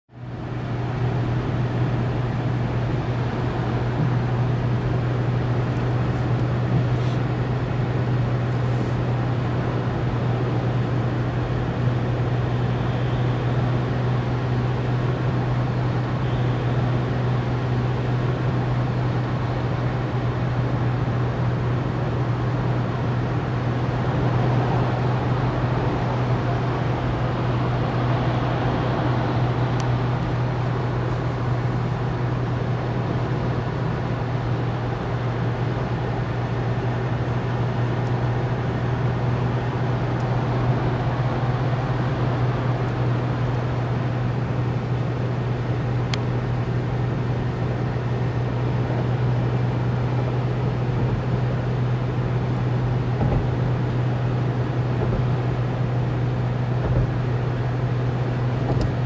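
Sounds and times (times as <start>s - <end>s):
low engine drone: 0.1s - 59.0s
road and wind noise: 0.1s - 59.0s.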